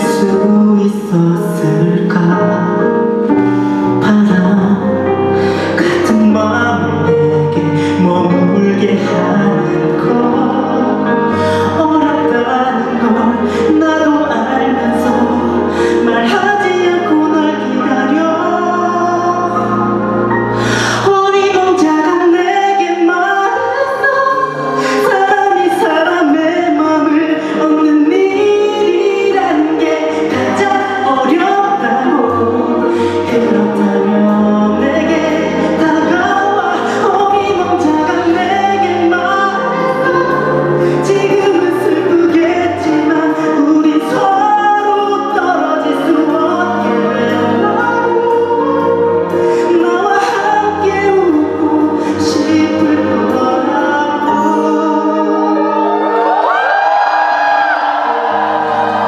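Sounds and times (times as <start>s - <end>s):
band playing: 0.0s - 23.4s, 24.0s - 59.0s
person singing a ballad: 0.0s - 59.0s.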